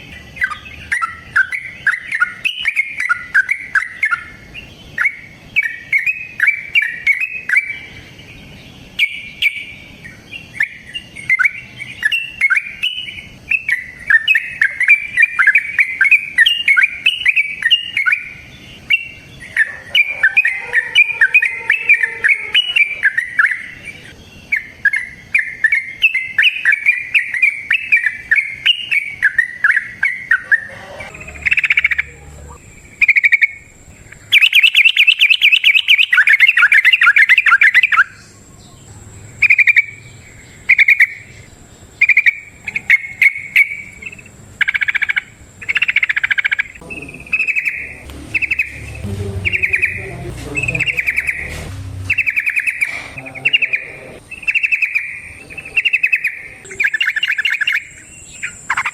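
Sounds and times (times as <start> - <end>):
bulbul singing: 0.0 - 58.9.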